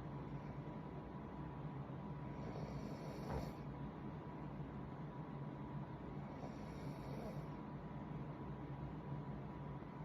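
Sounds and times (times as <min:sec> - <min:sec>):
room noise hum and hiss: 0:00.0 - 0:10.0.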